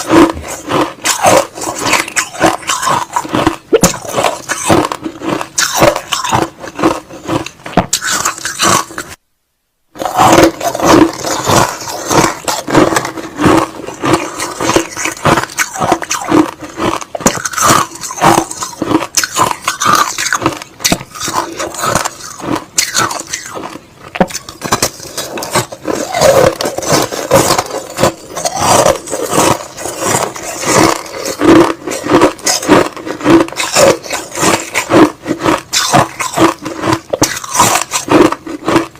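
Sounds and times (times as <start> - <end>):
chewing crushed ice: 0.0 - 9.2, 10.0 - 38.9.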